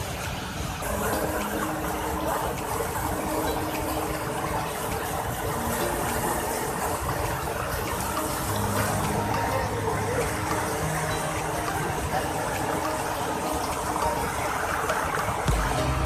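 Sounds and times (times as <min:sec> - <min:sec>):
rapids rushing over waterfall: 0:00.0 - 0:16.0.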